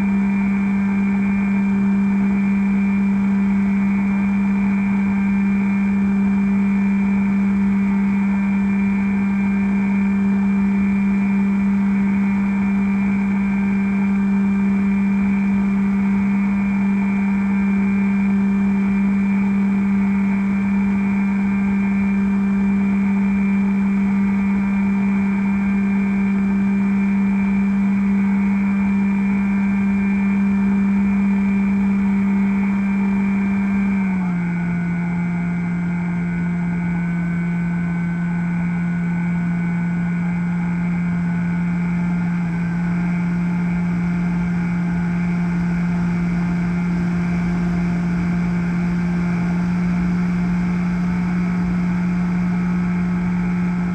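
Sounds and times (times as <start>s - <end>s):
model plane motor humming: 0.0s - 53.9s.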